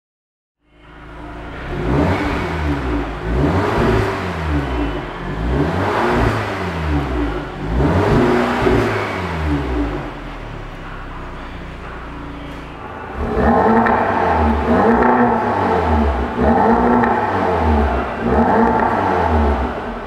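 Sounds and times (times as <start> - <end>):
car engine revving and idling: 0.6 - 20.0.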